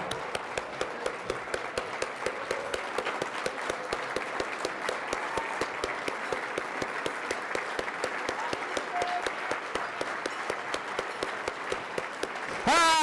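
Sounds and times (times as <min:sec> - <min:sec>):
audience applauding: 0:00.0 - 0:13.0
close hand claps: 0:00.0 - 0:13.0.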